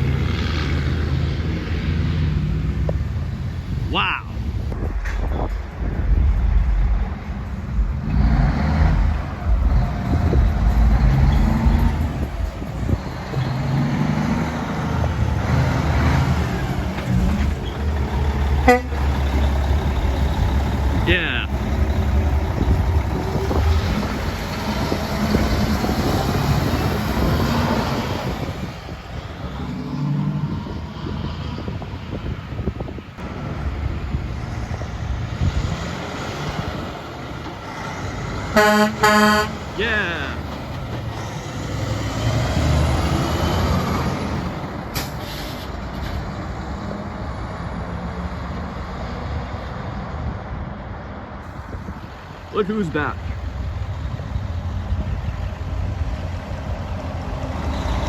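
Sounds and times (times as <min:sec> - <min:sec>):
road traffic noise: 0:00.0 - 0:58.0
truck engine passing: 0:00.0 - 0:58.0
vehicle engine passing: 0:00.0 - 0:58.0.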